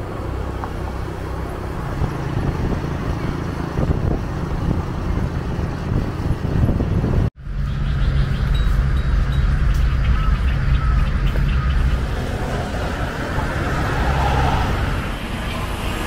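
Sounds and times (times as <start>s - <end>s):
road vehicle rumble: 0.0s - 16.0s.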